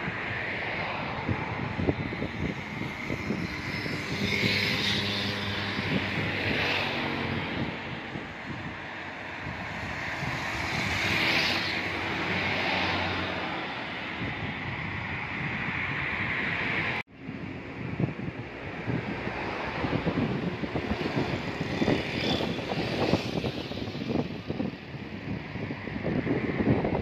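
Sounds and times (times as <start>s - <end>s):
traffic engine hum: 0.0s - 27.0s
wind on microphone: 0.0s - 27.0s.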